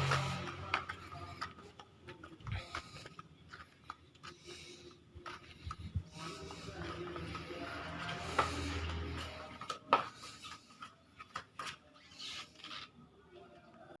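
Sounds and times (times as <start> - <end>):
footsteps and scuffs: 0.0 - 13.6.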